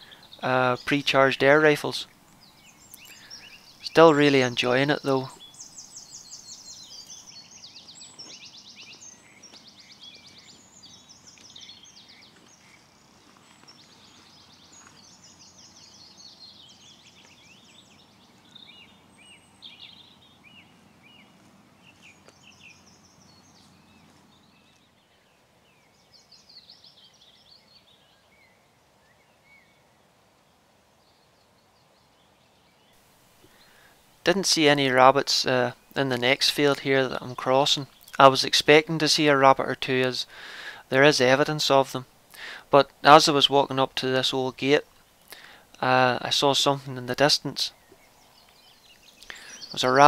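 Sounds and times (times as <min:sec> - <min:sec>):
songbirds singing: 0:00.0 - 0:50.0.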